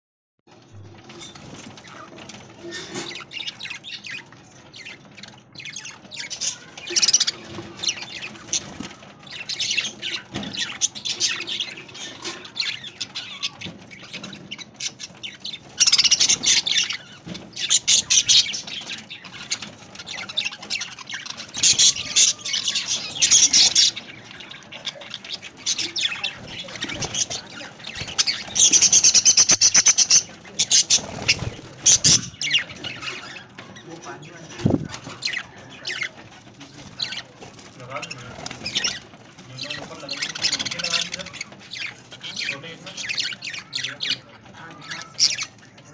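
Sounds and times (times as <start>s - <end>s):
budgerigars chattering and chirping: 0.8s - 45.9s.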